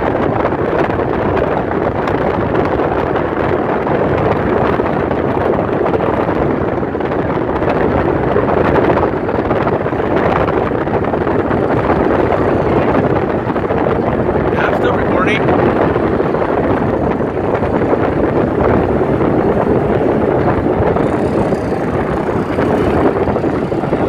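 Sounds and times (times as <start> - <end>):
wind and road noise in car: 0.0 - 24.0
wind buffeting microphone: 0.0 - 24.0.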